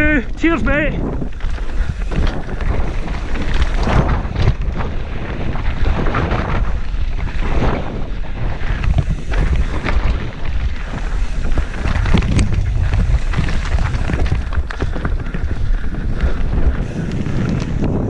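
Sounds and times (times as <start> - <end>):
wind buffeting microphone: 0.0 - 18.0
bike tyres knocking on stones: 1.1 - 7.4, 8.7 - 18.0.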